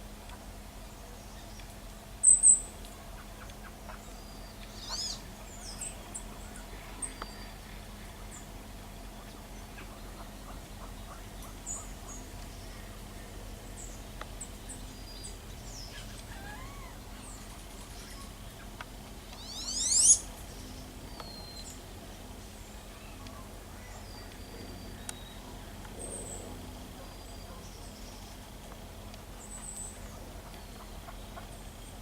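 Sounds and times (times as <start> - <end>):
small birds chirping: 0.3 - 32.0.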